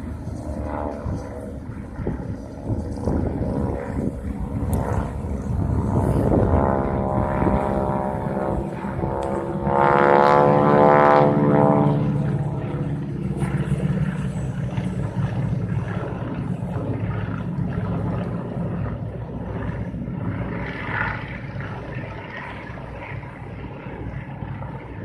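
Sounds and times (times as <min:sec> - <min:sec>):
biplanes propeller drone: 0:00.0 - 0:25.0.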